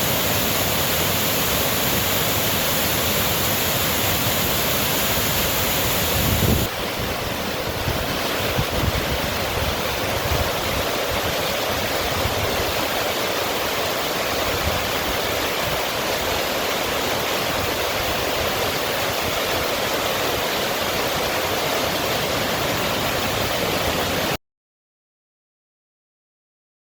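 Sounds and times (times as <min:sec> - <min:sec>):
river water rushing: 0:00.0 - 0:24.4.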